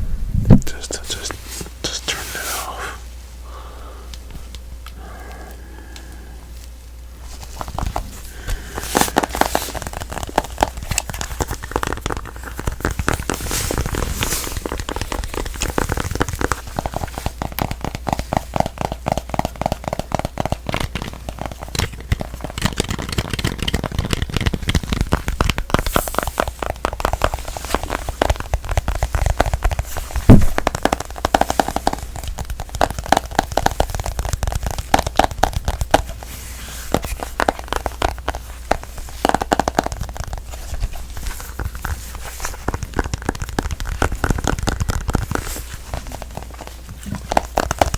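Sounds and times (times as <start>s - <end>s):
rapid tapping on a smartphone: 7.6s - 47.9s.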